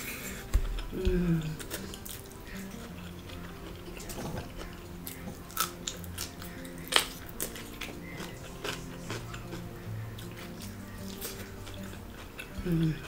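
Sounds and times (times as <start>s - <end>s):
light background music: 0.0s - 13.0s
chewing with clicks and smacks: 0.3s - 13.0s.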